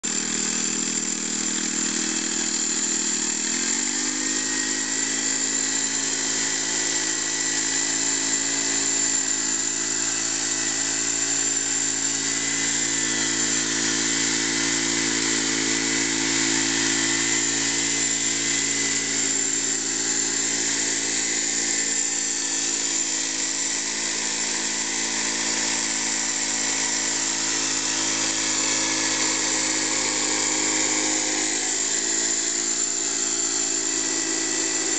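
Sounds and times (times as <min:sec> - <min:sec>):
small petrol engine at high revs: 0:00.0 - 0:34.9.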